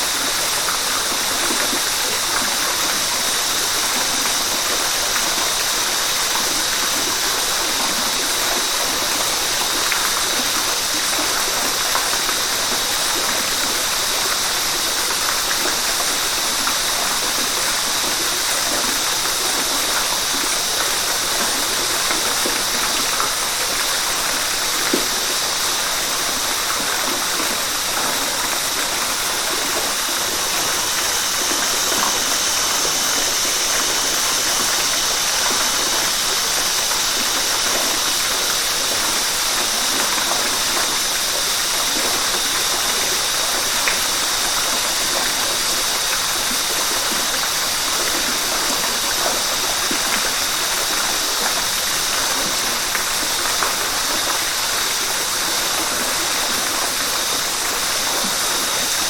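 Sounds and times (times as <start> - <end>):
water rushing over waterfall: 0.0 - 59.0.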